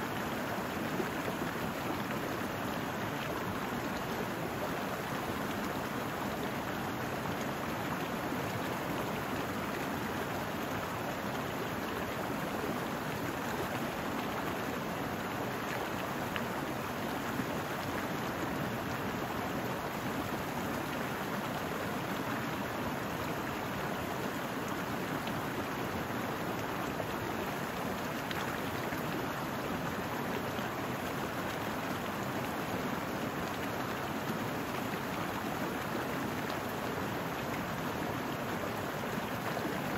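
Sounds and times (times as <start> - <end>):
brook running over rocks: 0.0 - 39.9.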